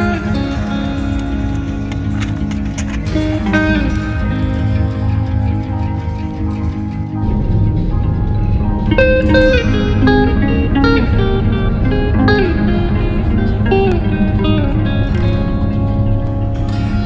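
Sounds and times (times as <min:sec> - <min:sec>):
plucked guitar melody: 0:00.0 - 0:17.0
steady low bass: 0:00.0 - 0:17.0.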